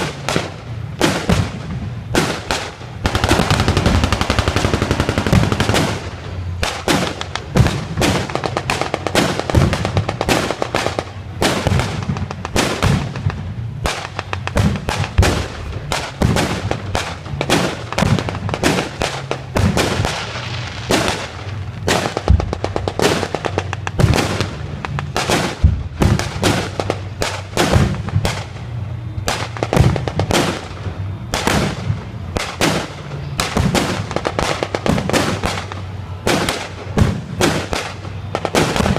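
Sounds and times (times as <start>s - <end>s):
pyrotechnic charges exploding: 0.0s - 38.9s
steady low hum: 0.0s - 38.9s.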